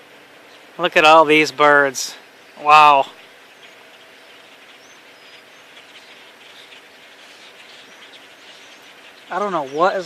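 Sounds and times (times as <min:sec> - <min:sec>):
faint bird chirps: 0:00.0 - 0:10.0
outdoor background hiss: 0:00.0 - 0:10.0.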